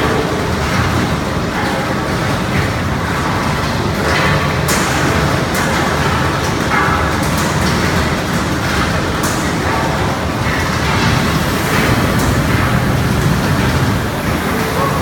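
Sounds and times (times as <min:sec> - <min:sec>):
machine rumbling: 0:00.0 - 0:15.0.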